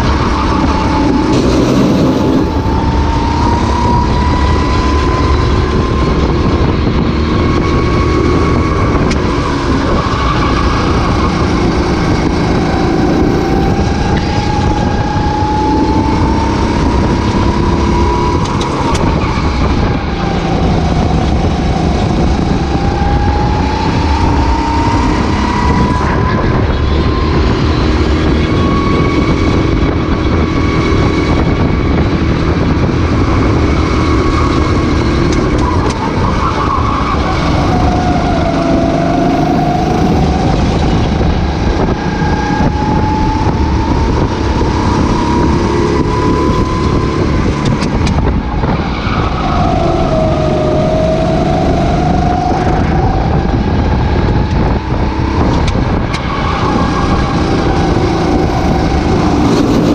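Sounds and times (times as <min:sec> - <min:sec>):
chassis noise: 0:00.0 - 0:59.9
racing kart engine: 0:00.0 - 0:59.9
wind rushing: 0:00.0 - 0:59.9.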